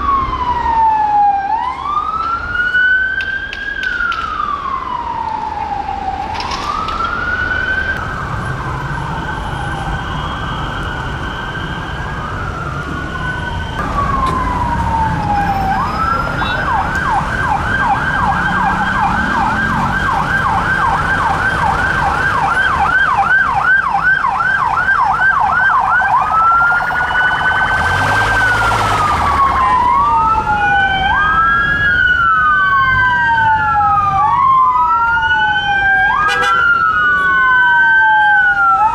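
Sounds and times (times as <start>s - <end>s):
harsh siren burst: 0.0s - 38.9s
police car siren: 0.0s - 38.9s
second siren wailing: 0.0s - 38.9s
traffic rumble: 0.0s - 38.9s.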